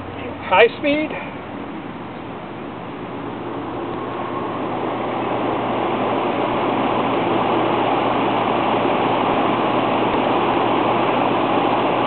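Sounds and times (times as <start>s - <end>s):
exhaust fan air rush: 0.0s - 12.0s
low motor hum: 0.0s - 12.0s.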